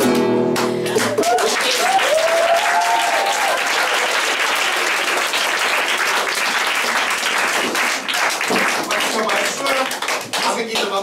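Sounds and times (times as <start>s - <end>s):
crowd applause: 0.6s - 11.0s.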